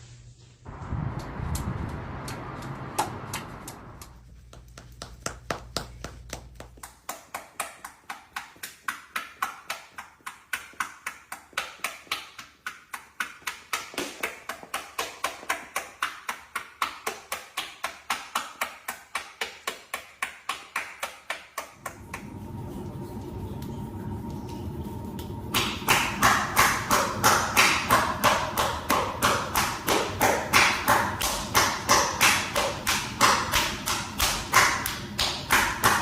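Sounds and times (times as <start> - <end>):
rhythmic skin slapping: 2.9 - 36.0.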